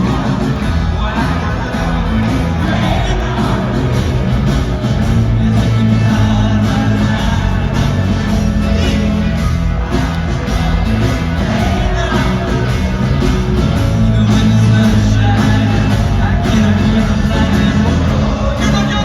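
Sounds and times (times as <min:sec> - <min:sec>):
live rock band playing: 0:00.0 - 0:19.0
person singing: 0:00.0 - 0:19.0.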